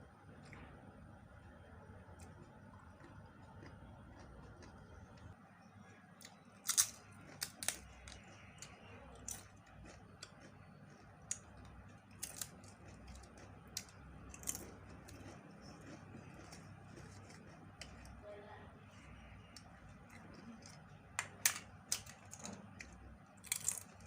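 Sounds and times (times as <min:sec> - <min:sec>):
person chewing: 0:02.0 - 0:05.4, 0:06.2 - 0:18.2, 0:18.9 - 0:24.0.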